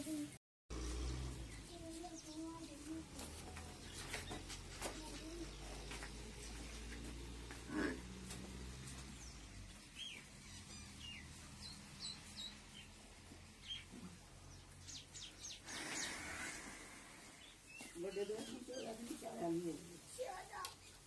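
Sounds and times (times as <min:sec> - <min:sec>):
faint small birds chirping: 0:00.1 - 0:07.2, 0:09.1 - 0:21.0.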